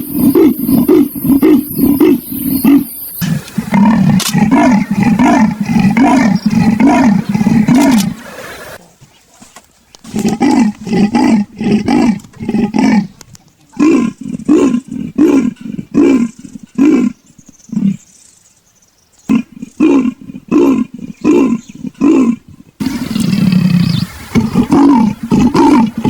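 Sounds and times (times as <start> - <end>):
leopard rasping grunts: 0.0 - 8.8, 10.0 - 18.0, 19.3 - 26.0.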